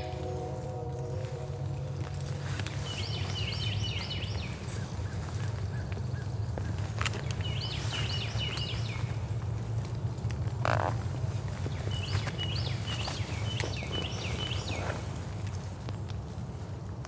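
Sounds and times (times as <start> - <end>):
songbird singing: 0.0 - 9.8, 10.6 - 15.7
steady rain: 0.0 - 17.0.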